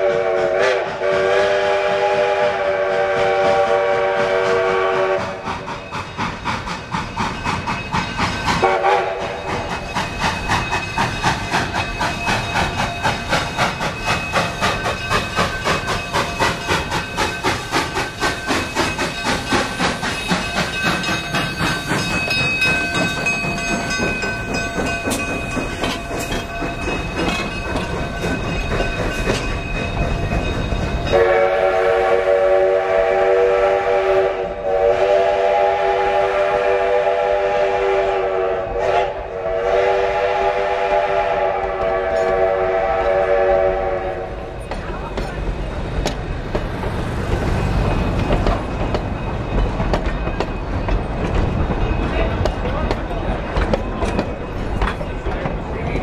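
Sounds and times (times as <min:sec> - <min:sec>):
steam locomotive chime whistle: 0:00.0 - 0:45.3
passenger cars rolling on rails: 0:00.0 - 0:56.0
steam exhaust chuffs: 0:00.0 - 0:56.0.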